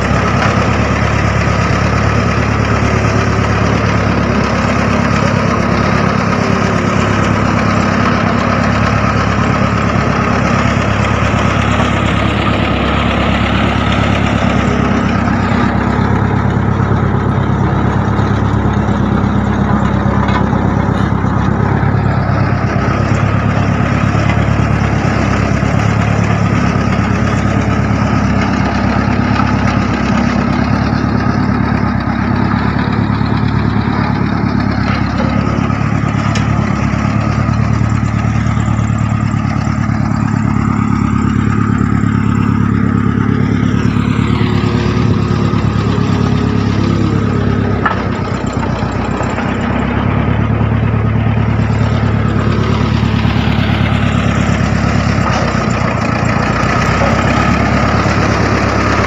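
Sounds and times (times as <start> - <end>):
heavy engine idling: 0.0 - 59.0.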